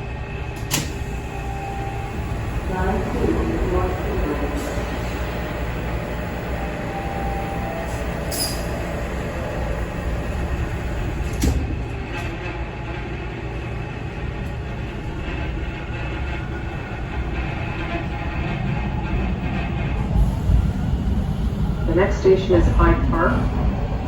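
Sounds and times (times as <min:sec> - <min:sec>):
subway car running noise: 0:00.0 - 0:24.0.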